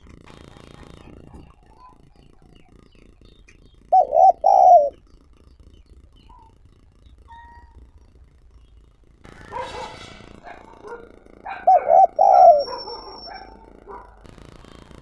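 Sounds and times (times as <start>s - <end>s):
dove cooing: 0.0s - 8.0s, 9.3s - 15.0s
faint scattered noises: 0.0s - 15.0s.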